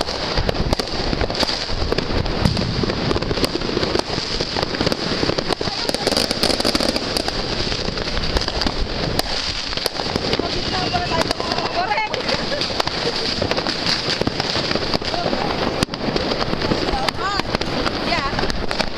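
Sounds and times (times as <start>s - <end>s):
fireworks crackling: 0.0s - 18.9s.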